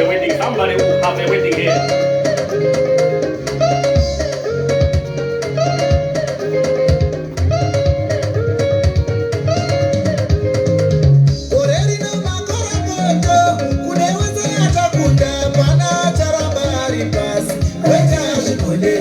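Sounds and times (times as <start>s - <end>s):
bass line: 0.0s - 19.0s
guitar riff: 0.0s - 19.0s
steady drum beat: 0.0s - 19.0s.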